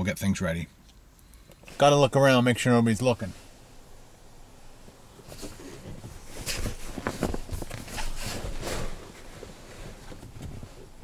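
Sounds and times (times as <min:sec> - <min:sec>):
bedding rustling and shuffling: 0:01.6 - 0:11.0.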